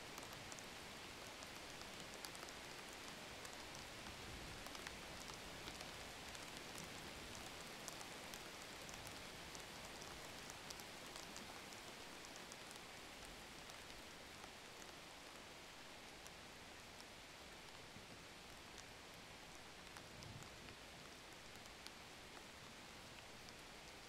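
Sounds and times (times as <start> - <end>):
faint steady hiss: 0.0 - 24.0
light scattered ticks: 0.0 - 24.0.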